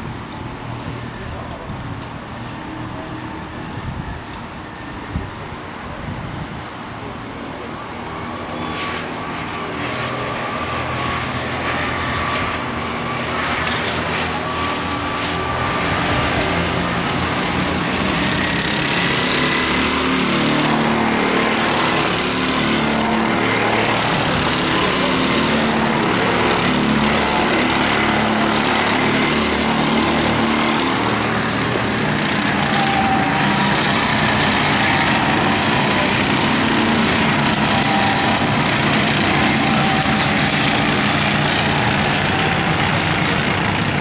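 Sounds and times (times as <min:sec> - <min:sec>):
go-kart engines: 0:00.0 - 0:44.0.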